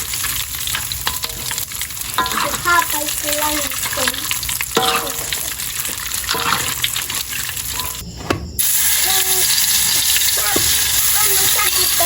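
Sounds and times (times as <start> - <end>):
food sizzling in a frying pan: 0.0 - 8.0, 8.6 - 12.0.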